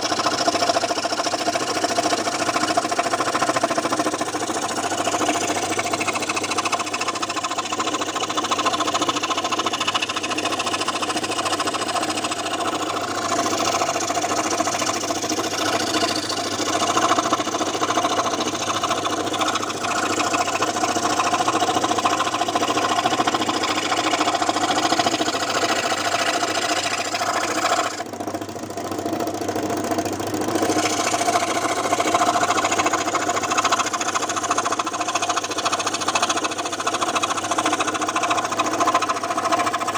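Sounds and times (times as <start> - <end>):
scroll saw cutting wood: 0.0 - 39.9.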